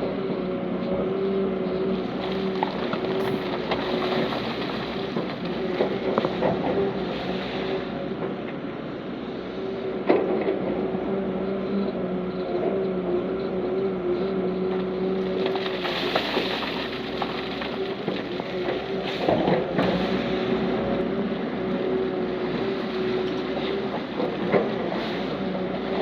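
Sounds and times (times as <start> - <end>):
heavy diesel machinery running: 0.0 - 26.0.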